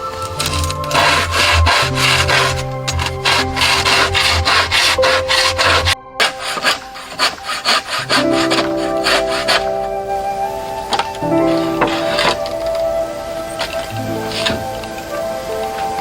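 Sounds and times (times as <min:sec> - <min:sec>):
hand saw cutting wood: 0:00.0 - 0:10.0, 0:10.7 - 0:12.8, 0:13.6 - 0:14.9
background music with held notes: 0:00.0 - 0:16.0.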